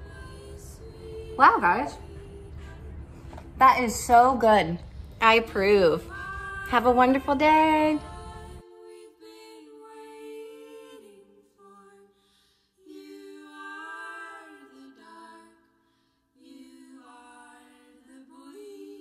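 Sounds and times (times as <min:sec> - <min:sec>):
a cappella voices humming in harmony: 0:00.0 - 0:03.6, 0:04.8 - 0:19.0.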